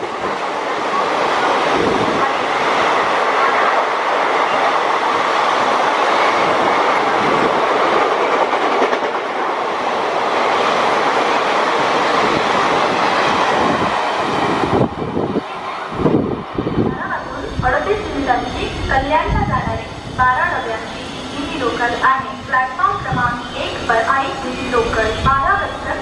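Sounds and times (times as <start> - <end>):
passenger train passing: 0.0 - 26.0.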